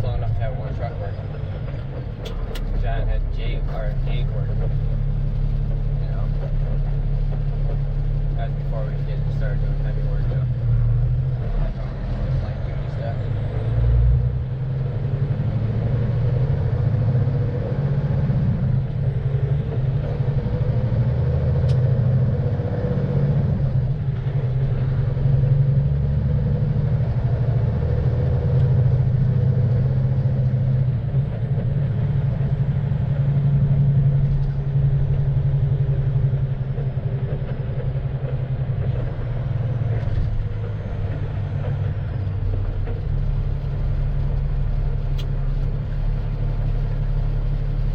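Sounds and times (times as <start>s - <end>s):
diesel engine and road rumble: 0.0s - 47.9s.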